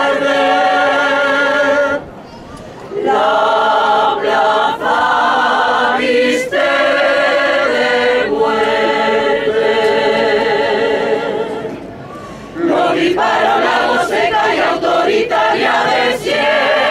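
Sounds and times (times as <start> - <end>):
choir singing slow song: 0.0 - 2.1, 2.9 - 16.9.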